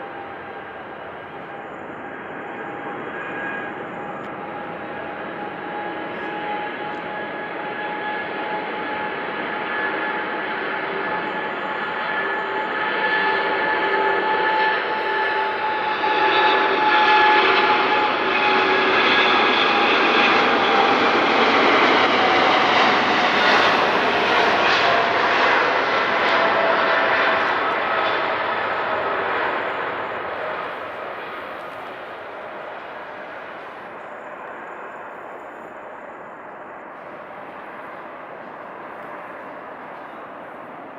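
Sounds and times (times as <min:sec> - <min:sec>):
jet engine roar: 0:00.0 - 0:40.9.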